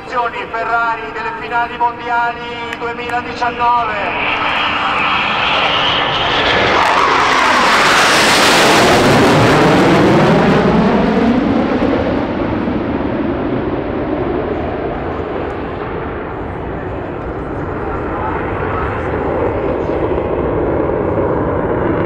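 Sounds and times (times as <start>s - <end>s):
jets flying past: 2.4s - 22.0s.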